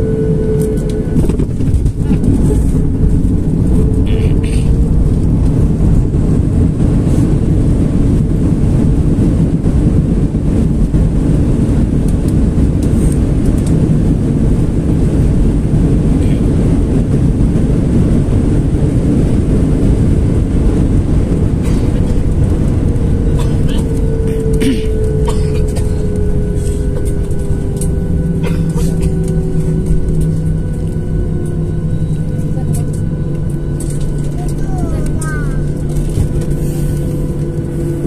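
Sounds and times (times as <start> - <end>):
jet engines and wheels rumbling: 0.0 - 38.0.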